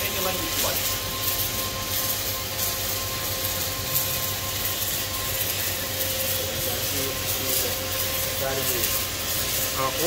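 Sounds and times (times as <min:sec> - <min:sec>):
welding machine hiss: 0:00.0 - 0:10.0.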